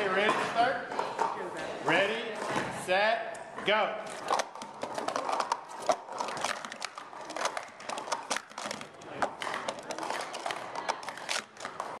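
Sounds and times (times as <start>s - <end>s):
plastic cups clicking and clattering: 0.0s - 2.7s, 4.0s - 12.0s.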